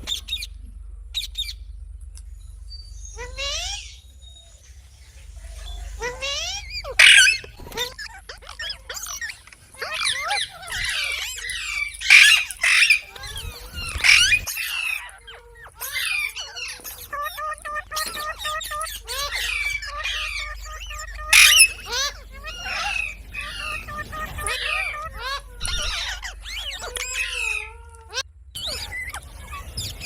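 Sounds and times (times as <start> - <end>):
parrot squawking and chattering: 3.0 - 4.1, 5.4 - 30.0.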